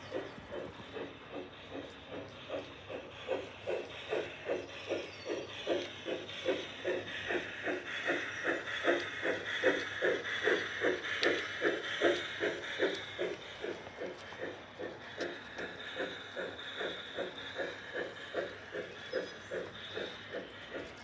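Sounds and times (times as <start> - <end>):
model steam locomotive chuffing: 0.0 - 21.0
steady steam hiss: 0.0 - 21.0.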